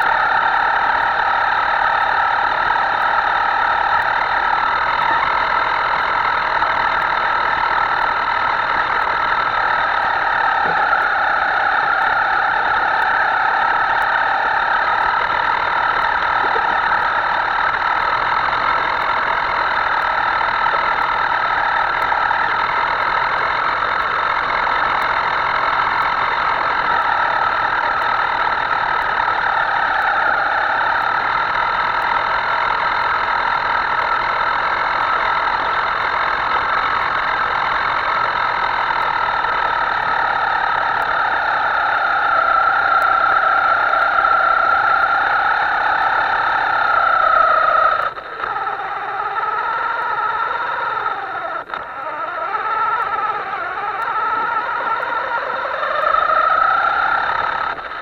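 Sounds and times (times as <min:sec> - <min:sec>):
model boat electric motor whining: 0:00.0 - 0:58.0.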